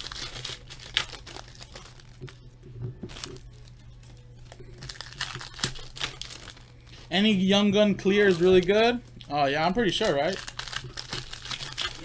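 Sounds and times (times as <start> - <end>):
cards and wrappers rustling: 0.0 - 12.0.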